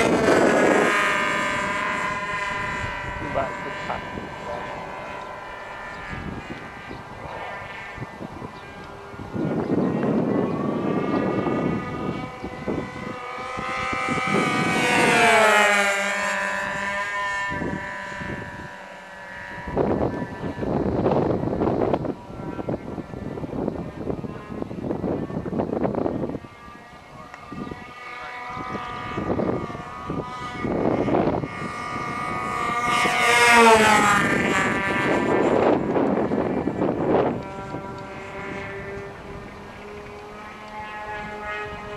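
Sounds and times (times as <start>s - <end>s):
low rumbling noise: 0.0s - 41.9s
model airplane engines buzzing: 0.0s - 41.9s.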